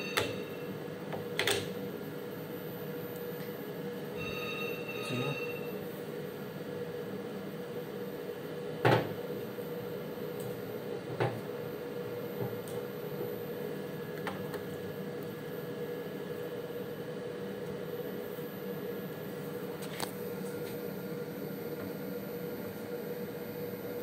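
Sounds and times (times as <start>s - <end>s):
lab equipment humming: 0.0s - 24.0s.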